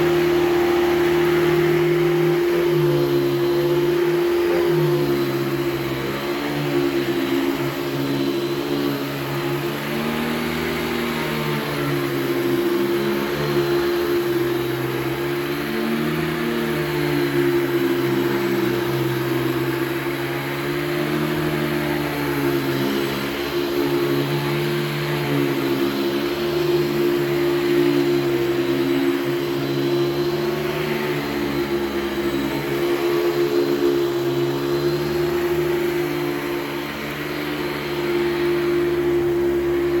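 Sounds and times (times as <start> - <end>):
vacuum cleaner motor hum: 0.0 - 40.0.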